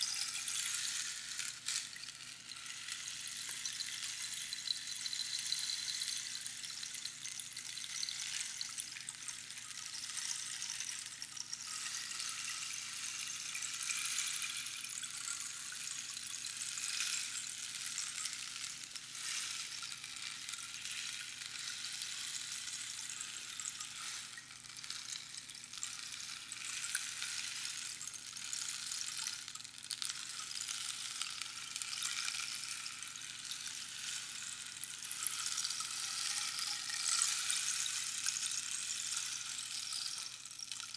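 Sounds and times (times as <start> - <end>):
rainstick pebbles trickling: 0.0 - 40.9.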